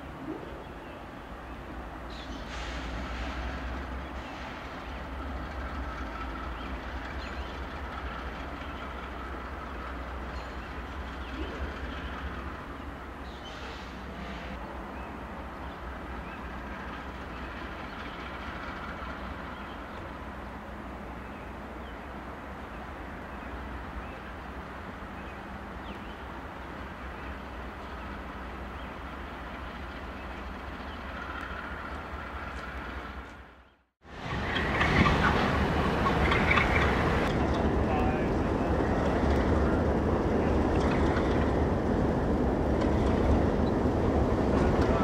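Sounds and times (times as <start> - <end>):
locomotive engine rumble: 0.0 - 45.0.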